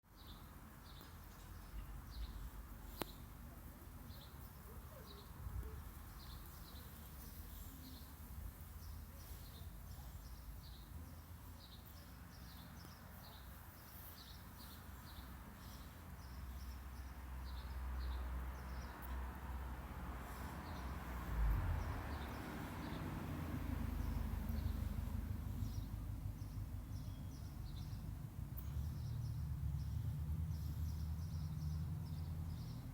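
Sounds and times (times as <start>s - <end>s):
songbird chirping: 0.1s - 32.9s.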